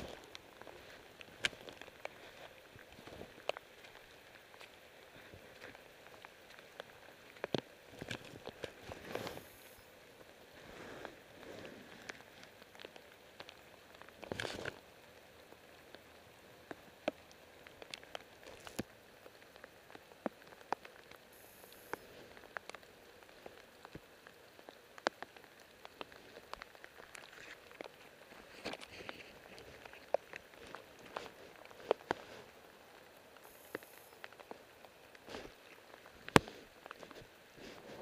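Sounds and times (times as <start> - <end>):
faint steady hiss of rain: 0.0 - 38.0
raindrops ticking: 0.0 - 38.0
rustle: 0.0 - 38.0.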